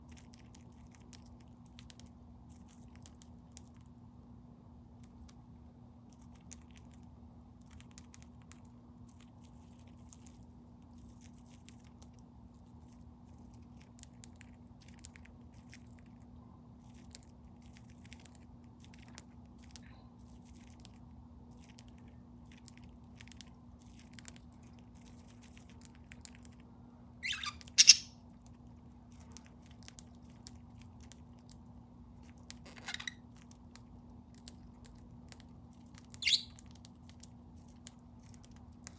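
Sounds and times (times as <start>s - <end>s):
budgie nibbling and cracking: 0.0s - 4.0s, 6.0s - 26.7s, 27.3s - 38.9s.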